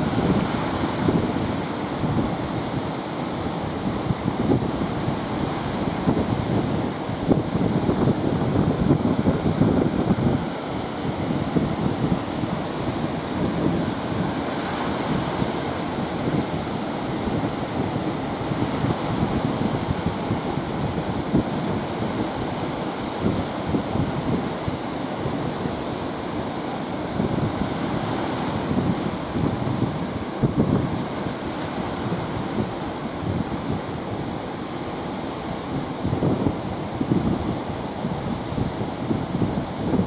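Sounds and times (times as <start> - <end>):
ocean surf breaking: 0.0 - 40.0
wind noise on microphone: 0.0 - 40.0.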